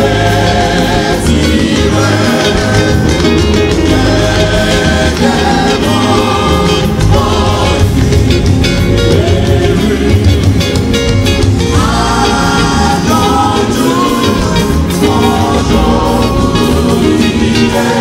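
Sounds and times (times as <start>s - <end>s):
choir singing a hymn: 0.0s - 18.0s
instrumental accompaniment with beat: 0.0s - 18.0s.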